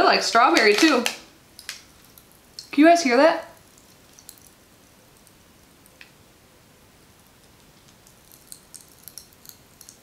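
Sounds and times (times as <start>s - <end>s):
popping candy crackling: 0.0s - 6.2s, 7.1s - 10.0s.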